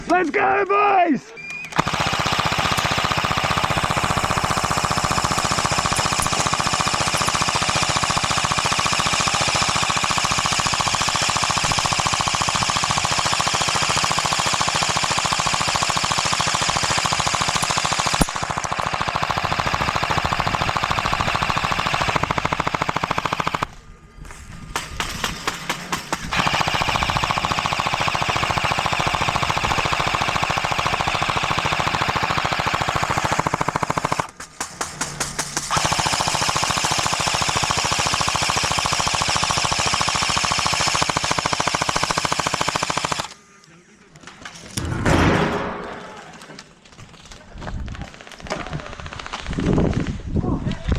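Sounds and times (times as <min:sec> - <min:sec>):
airsoft rifles firing full auto: 0:01.4 - 0:23.8, 0:24.7 - 0:43.5, 0:44.3 - 0:50.2.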